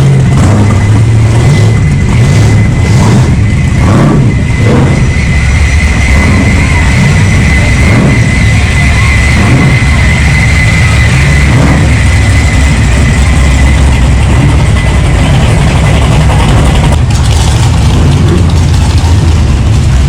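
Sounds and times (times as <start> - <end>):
car engines revving: 0.0 - 20.0
steady high whine: 0.0 - 20.0.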